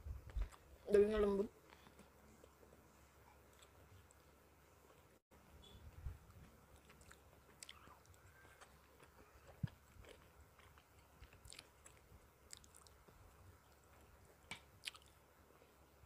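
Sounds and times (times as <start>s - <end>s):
chewing soft food: 1.6s - 5.2s, 6.3s - 16.0s.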